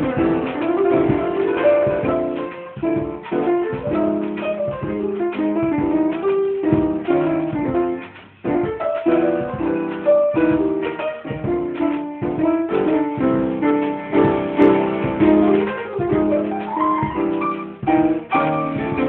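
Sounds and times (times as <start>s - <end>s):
instrumental melody over chords: 0.0s - 19.0s.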